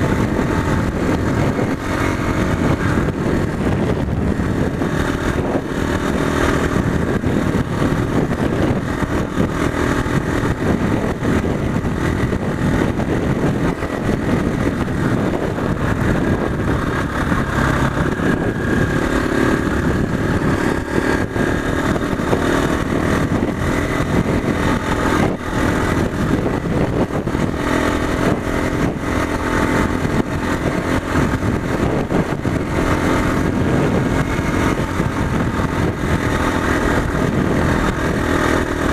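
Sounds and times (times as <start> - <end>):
constant rough noise: 0.0 - 38.9
motorcycle engine running: 0.0 - 38.9.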